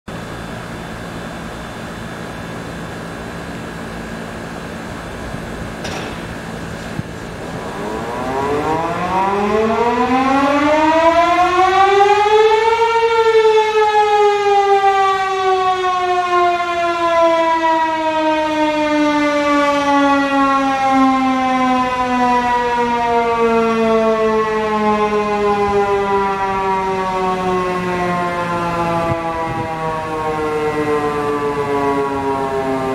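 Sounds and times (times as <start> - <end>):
tornado siren rising and falling: 6.5 - 32.9.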